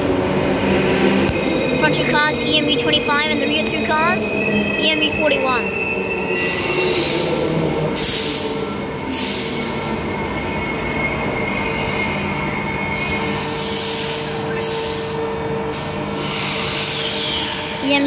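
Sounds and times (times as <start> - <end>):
electric trains humming: 0.0 - 18.0.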